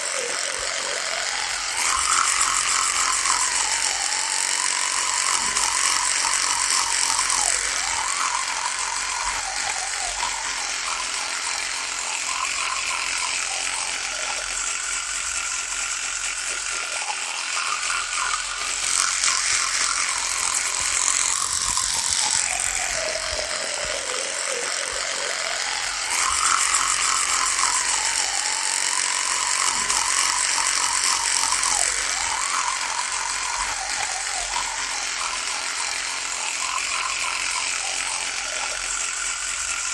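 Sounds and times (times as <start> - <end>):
electric toothbrush buzzing: 0.0 - 39.9.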